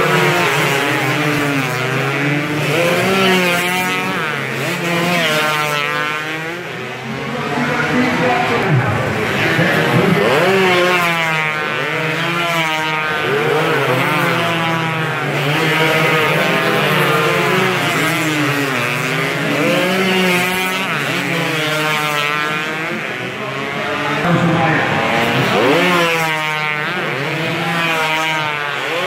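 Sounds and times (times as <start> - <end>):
racing motorcycles revving past: 0.0 - 29.0.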